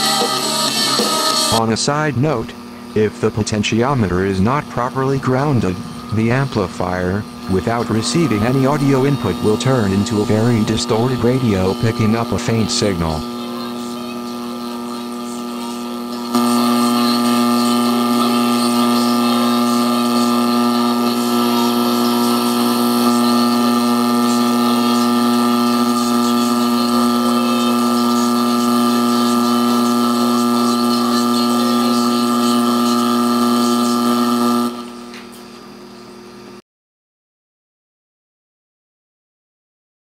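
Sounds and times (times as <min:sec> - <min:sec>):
distorted amplifier buzz: 0:00.0 - 0:36.6.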